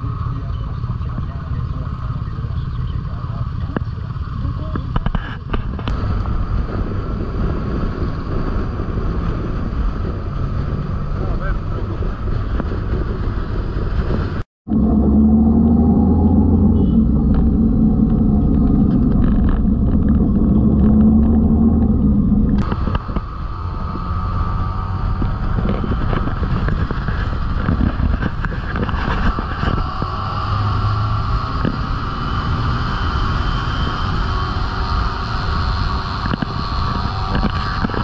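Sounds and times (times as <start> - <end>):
motorcycle engine running: 0.0 - 38.0
road and wind noise: 0.0 - 38.0.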